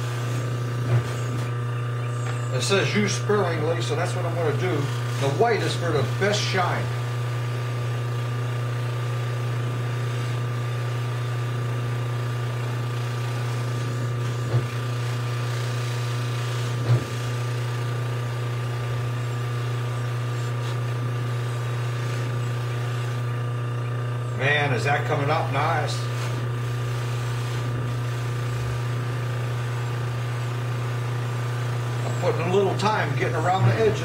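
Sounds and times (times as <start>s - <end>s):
buffer motor humming and whining: 0.0s - 34.0s.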